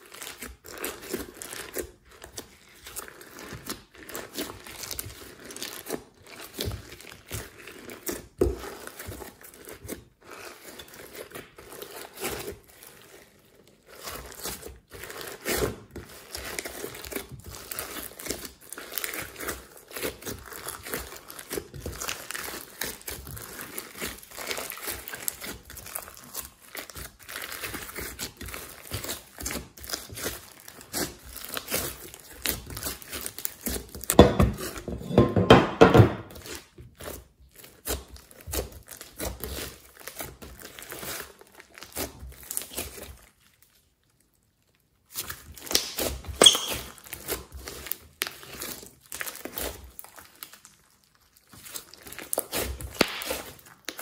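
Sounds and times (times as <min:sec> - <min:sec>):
slime squishing with sticky pops: 0:00.0 - 0:34.9, 0:36.2 - 0:54.0.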